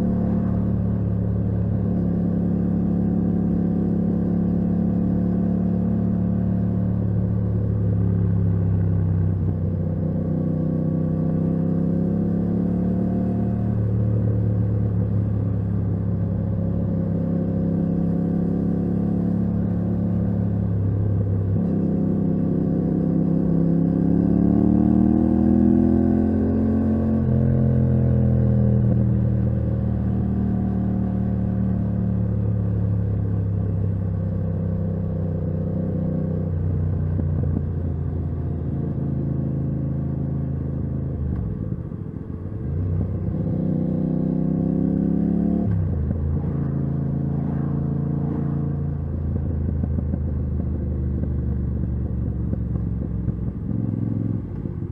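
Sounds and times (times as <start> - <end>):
motorcycle engine while riding: 0.0 - 54.9.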